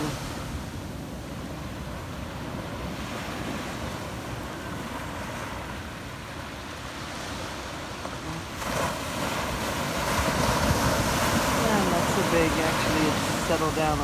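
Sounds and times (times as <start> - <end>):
waves washing up a beach: 0.0 - 14.0.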